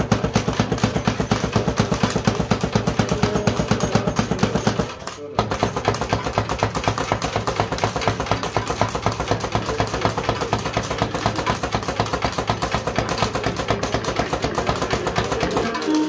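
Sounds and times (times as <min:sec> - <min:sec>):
rapid mechanical clicking: 0:00.0 - 0:16.0.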